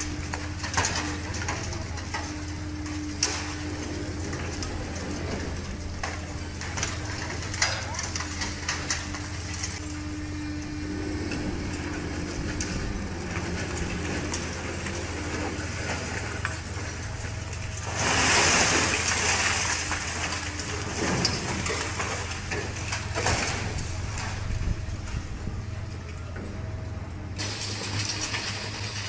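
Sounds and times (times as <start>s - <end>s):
heavy machine engine droning: 0.0s - 29.0s.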